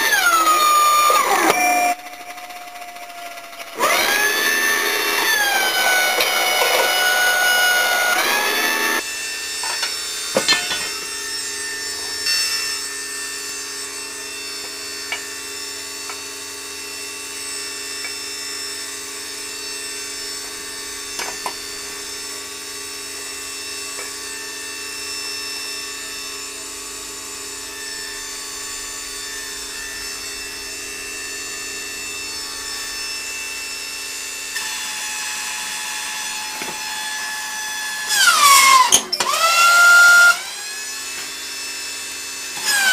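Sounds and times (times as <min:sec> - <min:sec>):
hydraulic pump motor whine: 0:00.0 - 0:42.9.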